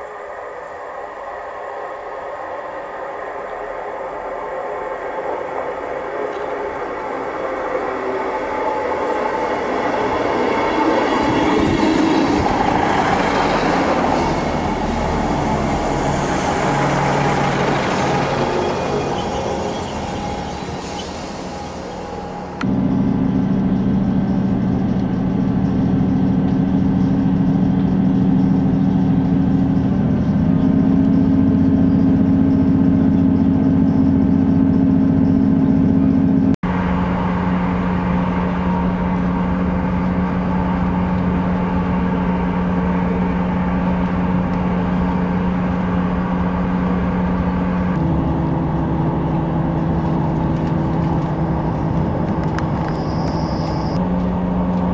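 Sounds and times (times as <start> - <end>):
diesel train drone inside carriage: 0.0 - 54.9.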